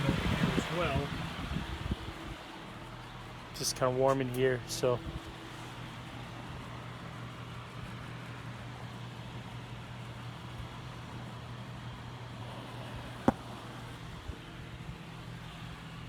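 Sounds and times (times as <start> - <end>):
window fan running: 0.0 - 16.0.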